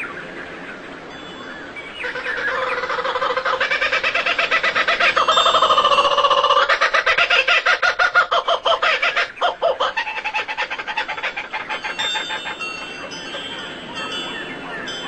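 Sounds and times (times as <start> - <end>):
bird clucking call: 2.0 - 15.0.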